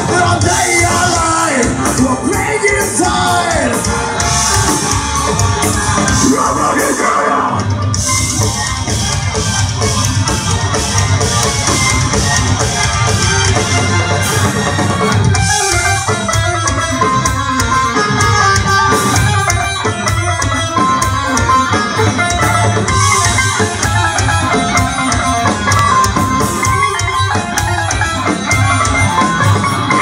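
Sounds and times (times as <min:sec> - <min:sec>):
bass guitar: 0:00.0 - 0:30.0
drum kit: 0:00.0 - 0:30.0
electric guitar: 0:00.0 - 0:30.0.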